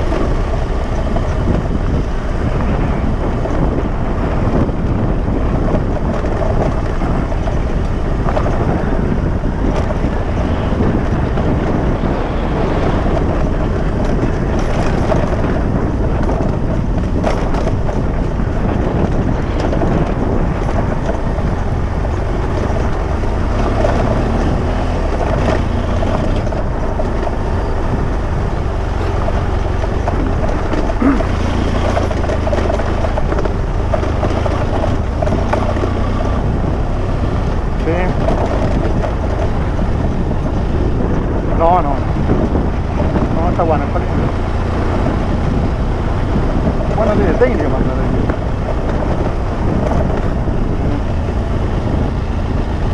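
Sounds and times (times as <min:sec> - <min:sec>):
engine and tyre rumble: 0:00.0 - 0:52.9
wind buffeting microphone: 0:00.0 - 0:52.9.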